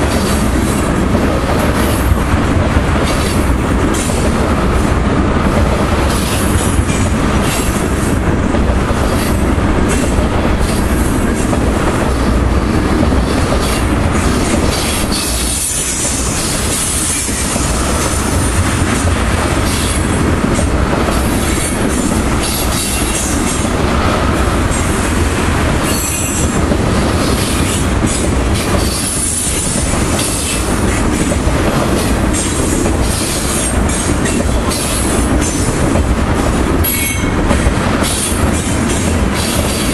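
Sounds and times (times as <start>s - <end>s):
clacks over rail joints: 0.0s - 39.9s
train wheels rumbling on rail: 0.0s - 39.9s.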